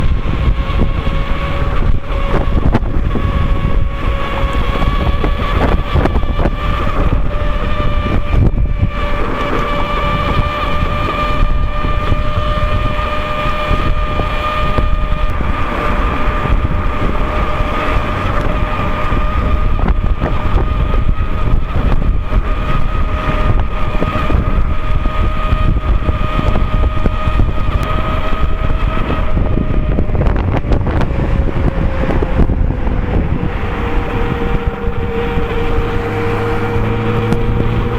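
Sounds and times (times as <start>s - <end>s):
tire humming on road: 0.0s - 37.9s
wind rumble on microphone: 0.0s - 37.9s.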